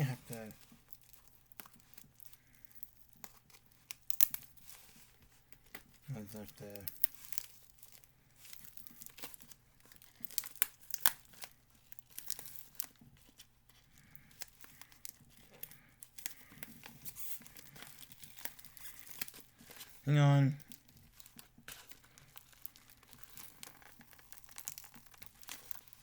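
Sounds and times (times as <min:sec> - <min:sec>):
packaging tearing and crinkling: 0:00.0 - 0:20.0, 0:20.6 - 0:26.0.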